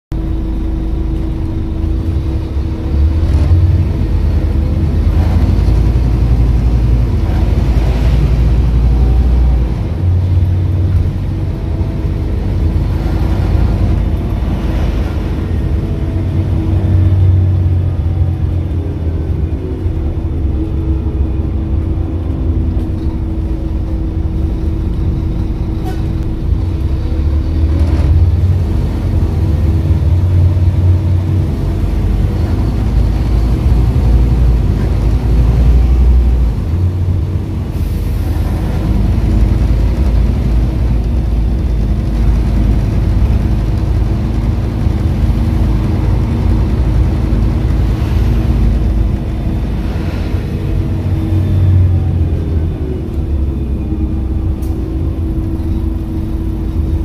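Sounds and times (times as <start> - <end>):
bus diesel engine: 0.0 - 57.0.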